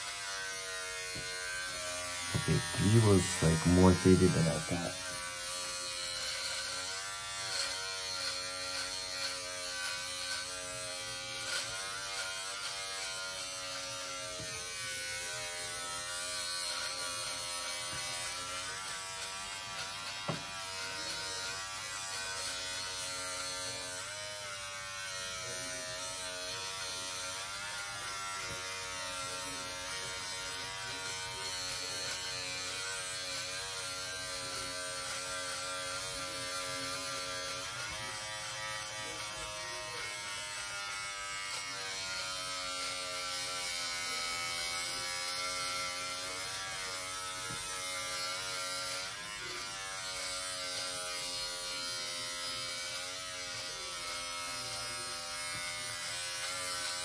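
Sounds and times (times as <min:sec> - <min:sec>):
electric shaver buzzing: 0:00.0 - 0:57.0.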